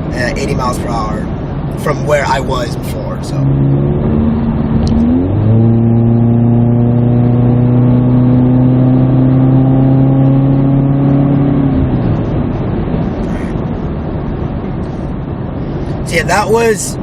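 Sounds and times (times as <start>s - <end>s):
car exhaust drone: 0.0s - 17.0s
road noise: 0.0s - 17.0s.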